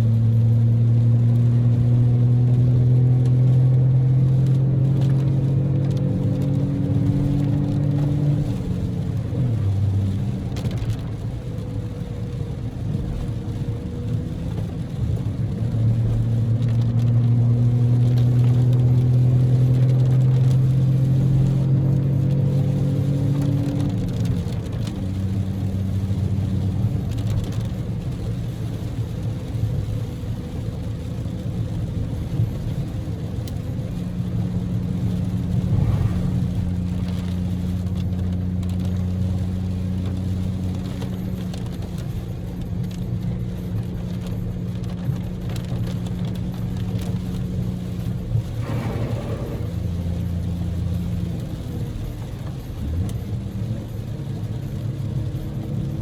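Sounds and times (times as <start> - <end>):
car engine droning: 0.0 - 56.0
road noise: 0.0 - 56.0.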